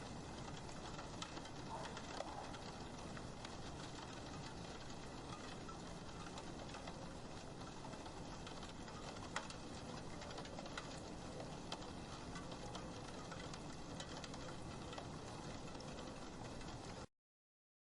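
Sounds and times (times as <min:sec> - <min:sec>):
rain hissing on a window: 0:00.0 - 0:17.1
raindrops tapping: 0:00.0 - 0:17.1.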